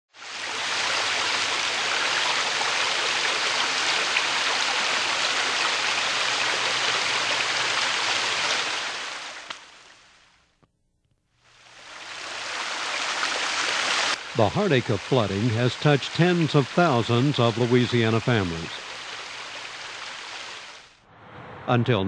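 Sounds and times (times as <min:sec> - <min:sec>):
water rushing: 0:00.1 - 0:10.0, 0:11.7 - 0:21.0.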